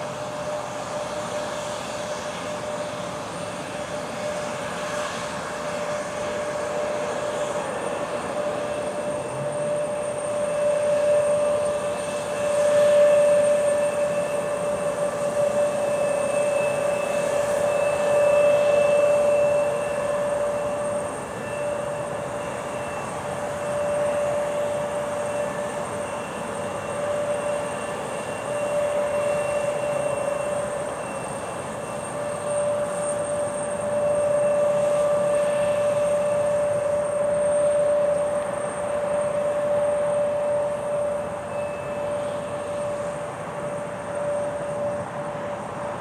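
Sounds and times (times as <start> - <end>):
jet engines taxiing: 0.0 - 46.0.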